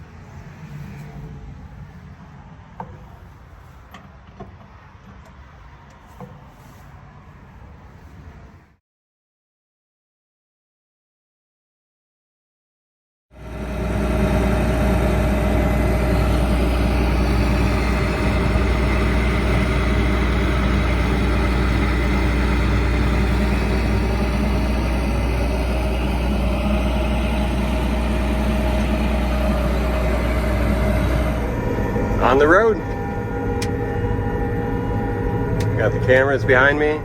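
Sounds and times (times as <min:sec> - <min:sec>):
diesel engine running steadily: 0:00.0 - 0:08.8, 0:13.4 - 0:37.0.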